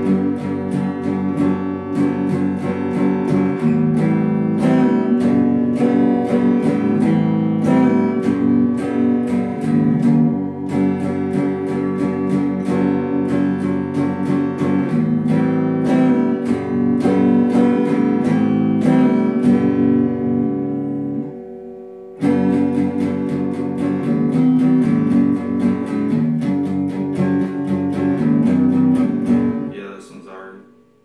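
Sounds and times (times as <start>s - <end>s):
archtop guitar strumming chords: 0.0s - 31.0s.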